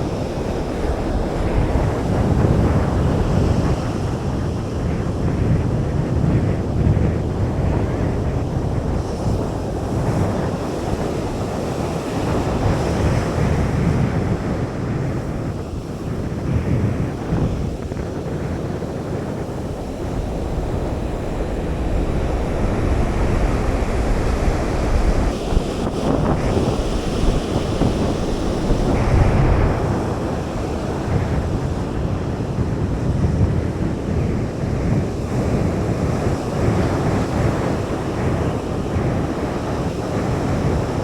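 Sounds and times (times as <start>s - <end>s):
surf washing on beach: 0.0s - 41.0s
wind buffeting microphone: 0.0s - 41.0s.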